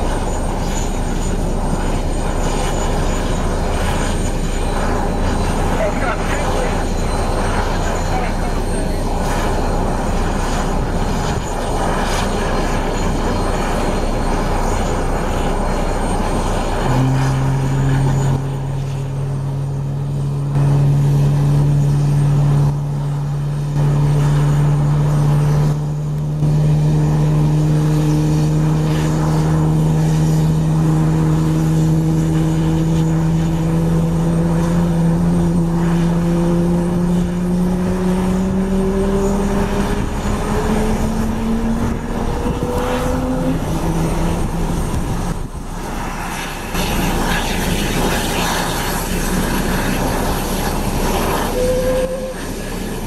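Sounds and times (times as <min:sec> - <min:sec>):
broad rushing noise: 0:00.0 - 0:53.0
jet engine spooling up hum: 0:00.0 - 0:53.0.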